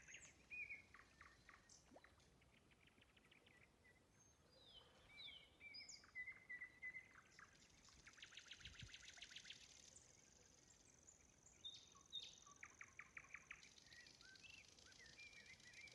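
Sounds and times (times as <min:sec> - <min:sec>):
songbird chirps and trills: 0:00.0 - 0:15.9.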